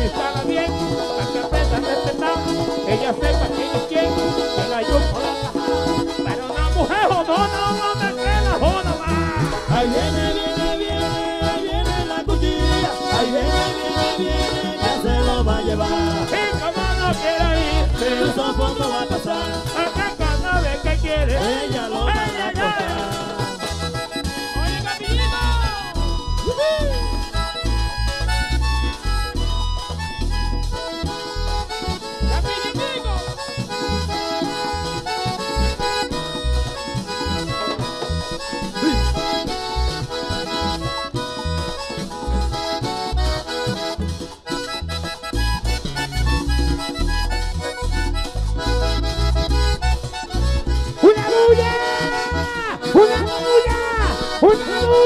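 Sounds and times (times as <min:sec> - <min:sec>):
accordion melody: 0:00.0 - 0:55.0
bass beat: 0:00.0 - 0:55.0
percussion: 0:00.0 - 0:55.0.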